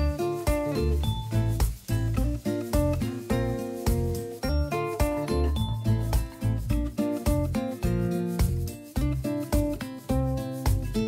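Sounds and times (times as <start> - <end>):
plucked notes over bass line: 0.0 - 11.0.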